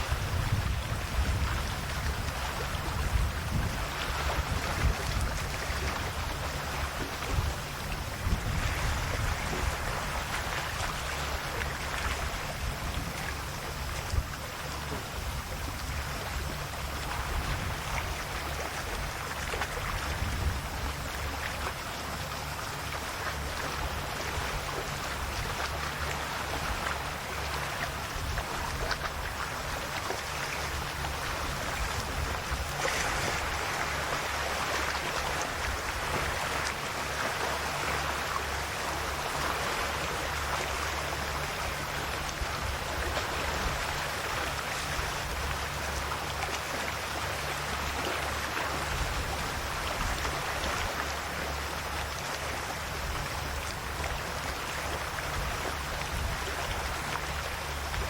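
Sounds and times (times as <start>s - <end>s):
sea waves lapping on shore: 0.0s - 58.0s.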